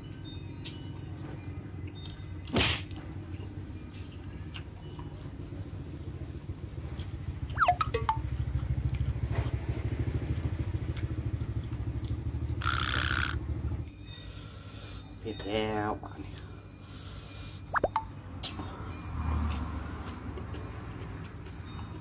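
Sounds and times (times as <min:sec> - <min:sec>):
small engine droning: 0:00.0 - 0:22.0.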